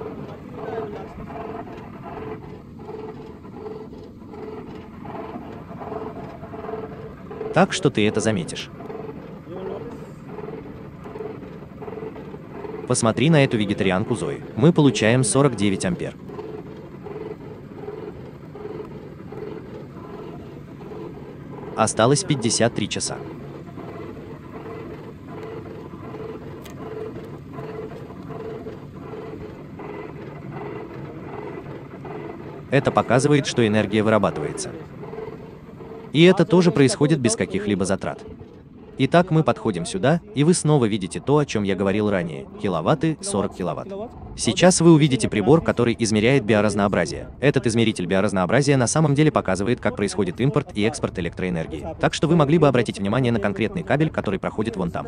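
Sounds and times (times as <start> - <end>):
pulsing generator machine hum: 0.0 - 55.0.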